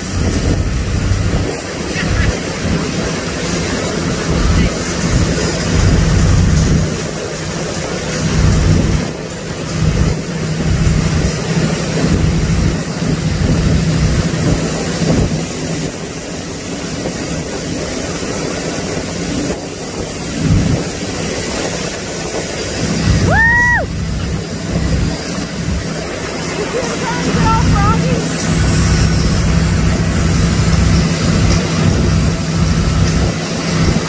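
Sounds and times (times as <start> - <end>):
motorboat engine running: 0.0 - 34.0
wake churning and splashing: 0.0 - 34.0
wind buffeting microphone: 0.0 - 34.0.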